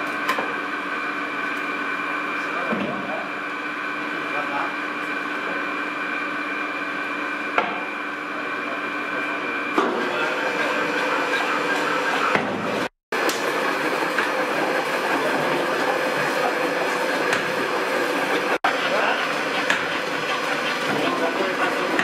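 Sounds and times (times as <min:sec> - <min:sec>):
machinery humming: 0:01.0 - 0:22.0.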